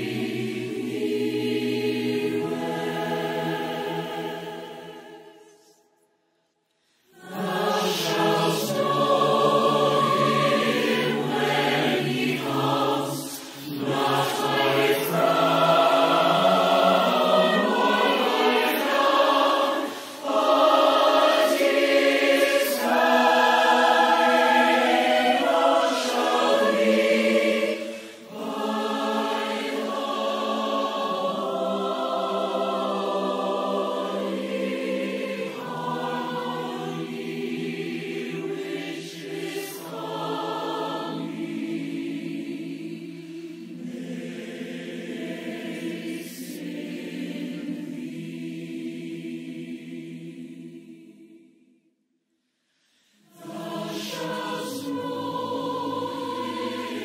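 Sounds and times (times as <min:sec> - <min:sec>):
mixed choir singing: 0:00.0 - 0:05.9, 0:07.1 - 0:51.7, 0:53.1 - 0:57.0.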